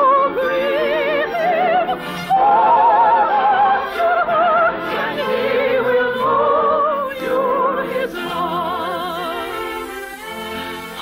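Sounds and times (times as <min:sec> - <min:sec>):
operatic singing: 0:00.0 - 0:11.0
orchestra playing: 0:00.0 - 0:11.0.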